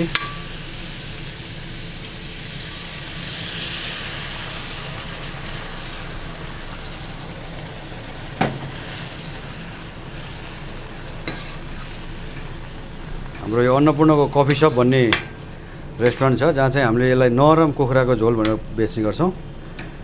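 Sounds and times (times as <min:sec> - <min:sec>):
curry sizzling in a wok: 0:00.0 - 0:17.0.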